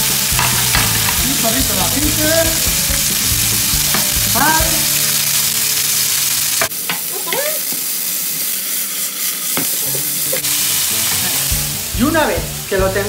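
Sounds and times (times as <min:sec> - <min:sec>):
food sizzling in hot oil: 0:00.0 - 0:12.9.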